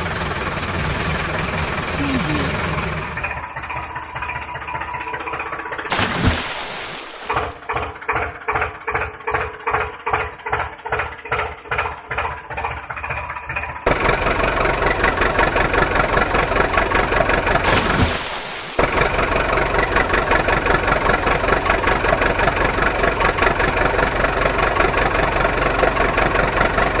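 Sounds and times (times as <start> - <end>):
engine chugging: 0.0 - 5.9, 7.5 - 17.7, 18.8 - 27.0.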